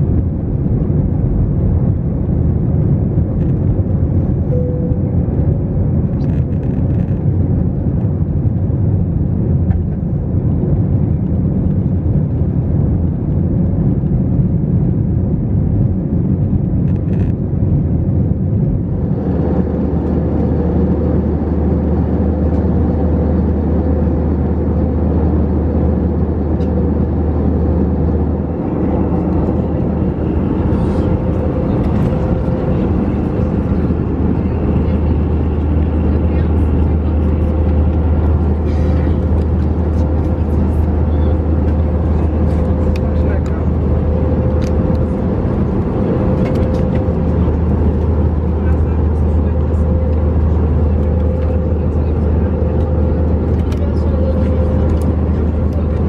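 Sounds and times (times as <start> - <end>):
deep cabin drone: 0.0 - 56.0
jet engine cabin rumble: 0.0 - 56.0.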